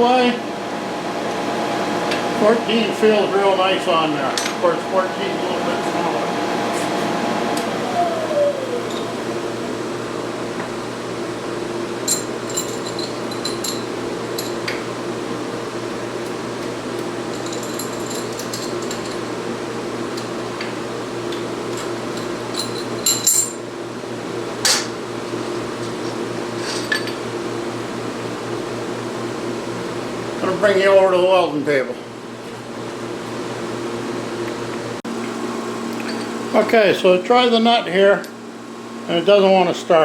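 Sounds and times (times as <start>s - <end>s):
heater fan humming: 0.0s - 40.0s.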